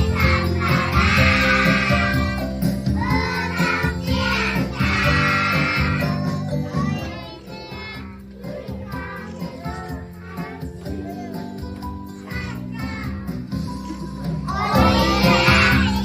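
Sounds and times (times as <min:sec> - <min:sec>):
children singing: 0:00.0 - 0:13.3, 0:14.4 - 0:16.0
backing music: 0:00.0 - 0:16.0.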